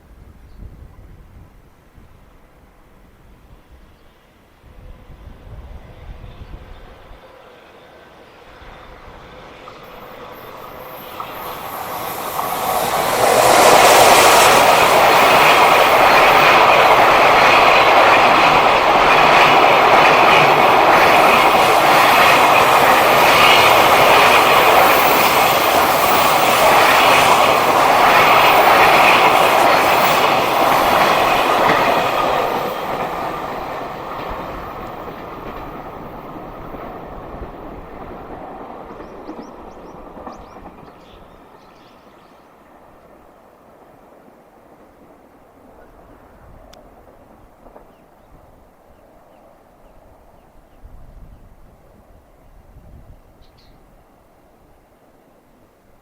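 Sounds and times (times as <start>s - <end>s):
freight train passing: 0.0s - 56.0s
train wheels on rails: 3.6s - 51.3s.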